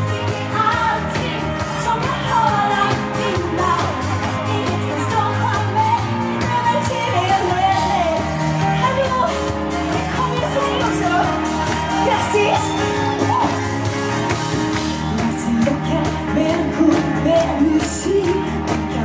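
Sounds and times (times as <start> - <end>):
woman singing into a microphone: 0.0 - 13.7, 14.9 - 19.0
pop backing track with beat: 0.0 - 19.0.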